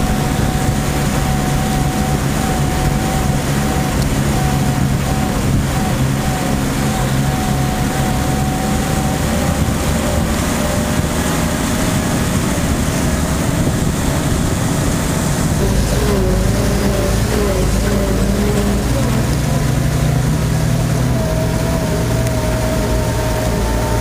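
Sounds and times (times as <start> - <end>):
thin whine: 0.0 - 24.0
truck engine running: 0.0 - 24.0.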